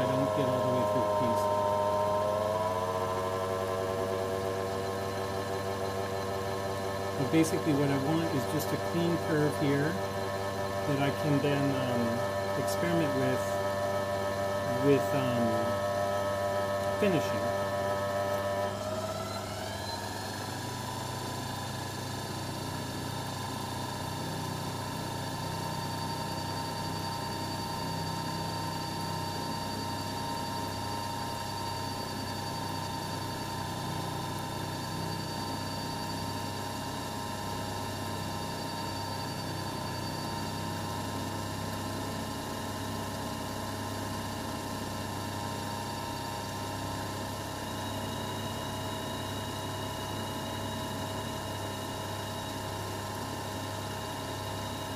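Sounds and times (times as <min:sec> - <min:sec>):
milling spindle motor whine: 0:00.0 - 0:54.9.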